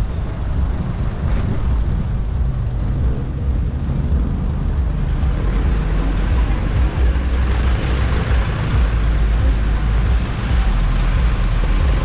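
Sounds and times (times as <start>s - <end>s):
road noise: 0.0s - 12.0s
wind rumble on microphone: 0.0s - 12.0s.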